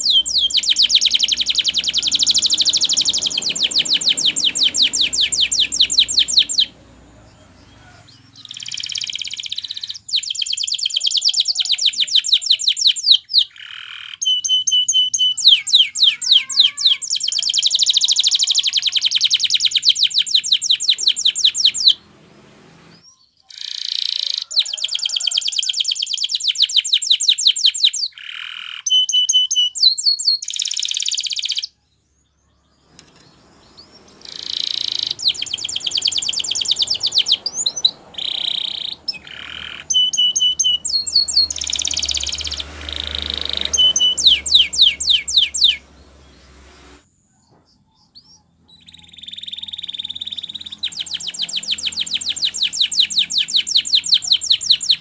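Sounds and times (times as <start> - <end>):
canary singing trills and whistles: 0.0 - 22.0, 23.0 - 55.0.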